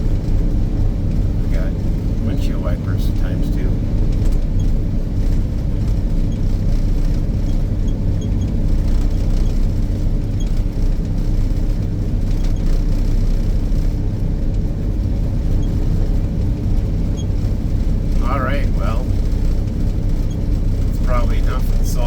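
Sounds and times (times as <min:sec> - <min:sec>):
snowcat engine droning: 0:00.0 - 0:22.0.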